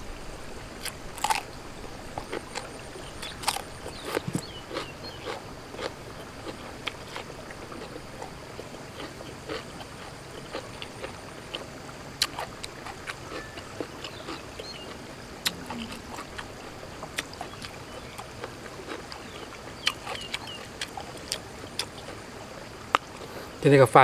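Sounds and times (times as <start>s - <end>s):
faint outdoor background: 0.0s - 24.0s
mouth chewing raw meat: 0.8s - 23.4s.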